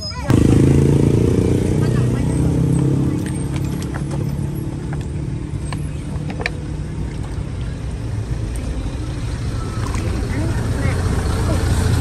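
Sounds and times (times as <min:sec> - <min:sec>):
low engine rumble: 0:00.3 - 0:12.0.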